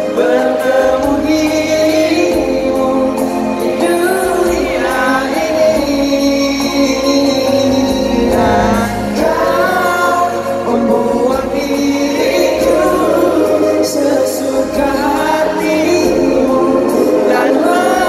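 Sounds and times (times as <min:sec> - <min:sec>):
live pop ballad over sound system: 0:00.0 - 0:18.0.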